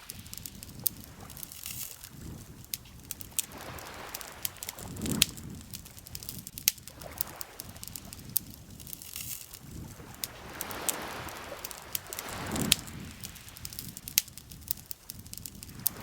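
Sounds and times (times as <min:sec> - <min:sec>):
campfire crackling and popping: 0:00.0 - 0:16.0
lake water lapping: 0:00.0 - 0:16.0.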